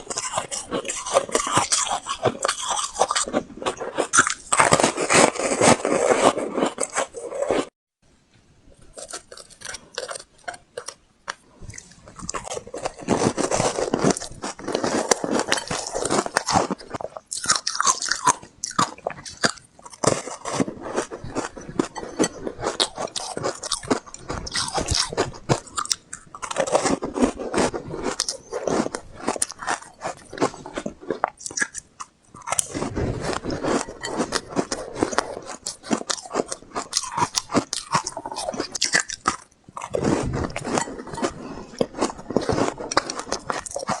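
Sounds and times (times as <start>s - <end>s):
crunchy ice chewing: 0.0s - 7.7s, 8.9s - 44.0s.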